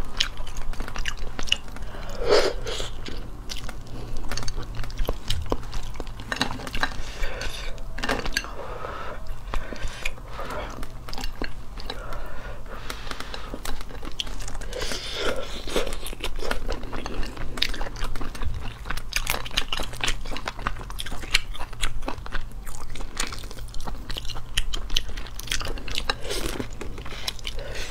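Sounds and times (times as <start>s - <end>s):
chewing: 0.0s - 27.9s.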